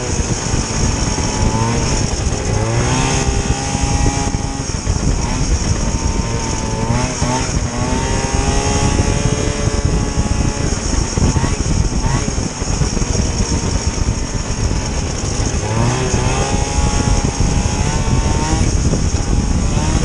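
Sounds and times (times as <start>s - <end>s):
two-stroke snowmobile engine revving: 0.0s - 20.0s.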